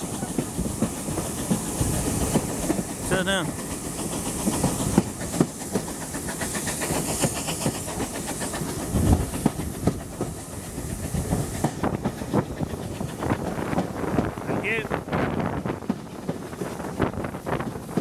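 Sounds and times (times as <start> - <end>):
rushing air: 0.0 - 18.0
steam hissing: 0.0 - 18.0
train wheels clicking over rail joints: 0.0 - 18.0.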